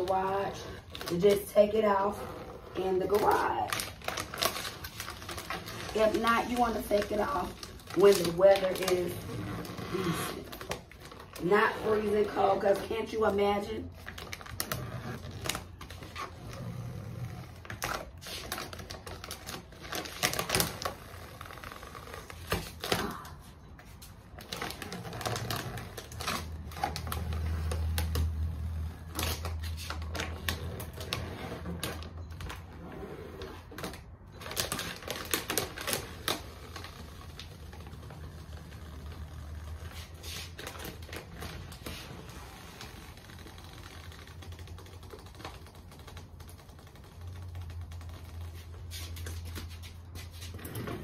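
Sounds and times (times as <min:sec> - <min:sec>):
vinyl film peeling and crackling: 0:00.0 - 0:51.0.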